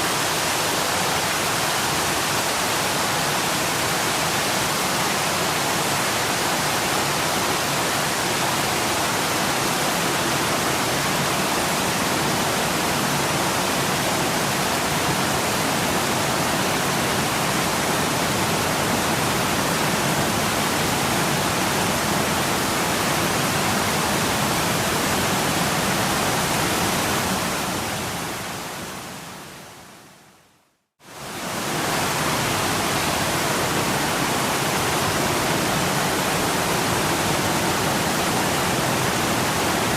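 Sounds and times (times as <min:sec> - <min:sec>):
waterfall rushing: 0:00.0 - 0:29.9, 0:31.1 - 0:39.9.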